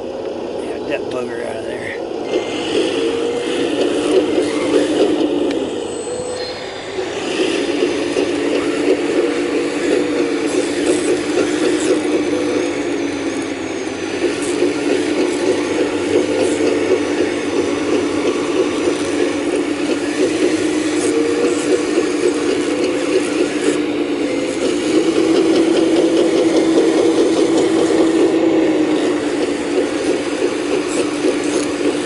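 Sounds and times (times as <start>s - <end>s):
gear whine with rattling clatter: 0.0s - 32.0s.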